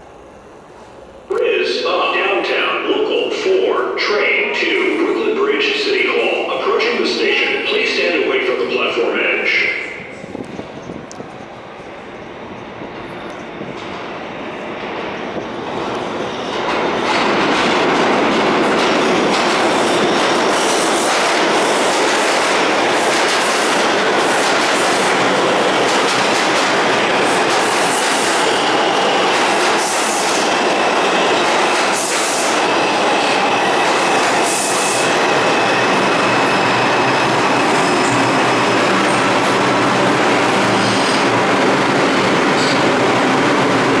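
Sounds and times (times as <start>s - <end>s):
subway train wheels rushing: 0.0s - 44.0s.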